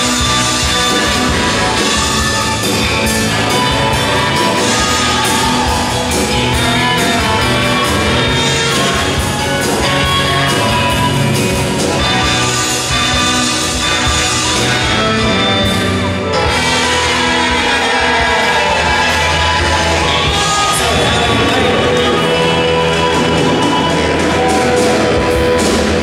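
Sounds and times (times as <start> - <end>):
harmonica: 0.0 - 26.0
live rock band playing: 0.0 - 26.0
saxophone: 0.0 - 26.0.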